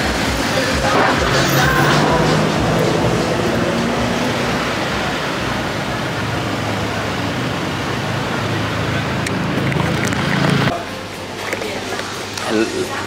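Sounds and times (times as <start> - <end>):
low engine hum: 0.0 - 10.7
vehicle and traffic rushing: 0.0 - 12.4.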